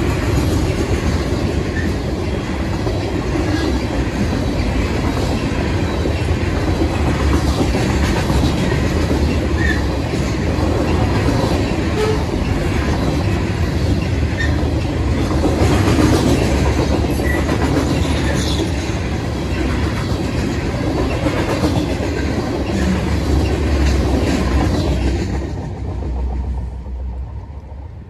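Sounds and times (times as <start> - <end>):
steel wheels clattering over rail joints: 0.0 - 27.0
freight train rolling past: 0.0 - 28.0.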